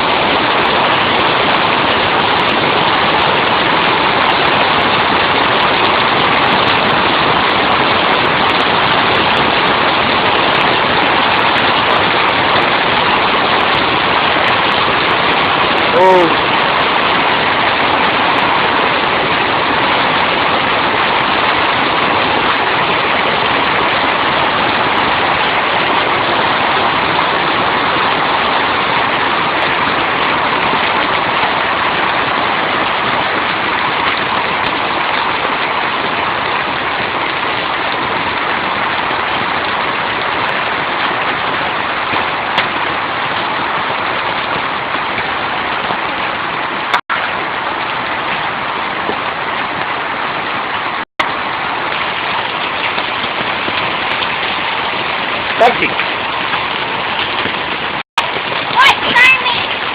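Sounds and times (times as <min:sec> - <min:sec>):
hail and heavy rain: 0:00.0 - 0:59.9.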